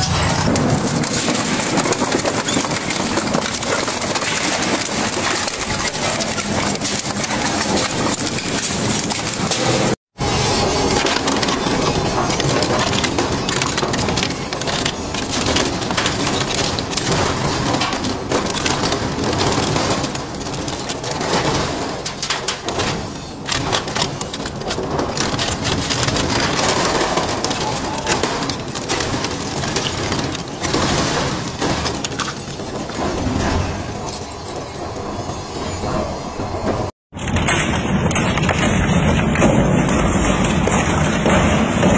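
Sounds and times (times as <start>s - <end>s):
metal castings cracking: 0.0s - 35.2s, 37.1s - 41.9s
industrial shredder grinding metal: 0.0s - 41.9s.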